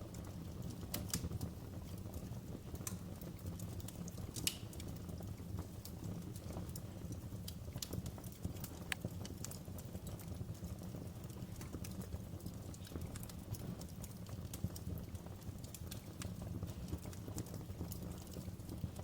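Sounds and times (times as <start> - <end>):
low rumble of flames: 0.0 - 19.0
wood fire crackling: 0.0 - 19.0
sharp pops and snaps: 0.2 - 2.2, 2.8 - 10.6, 11.2 - 18.8.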